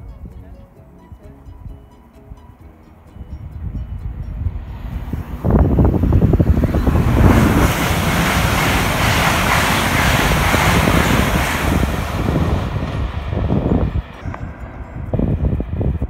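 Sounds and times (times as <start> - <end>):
high-speed train passing: 0.0 - 16.0
wind buffeting microphone: 0.0 - 16.0.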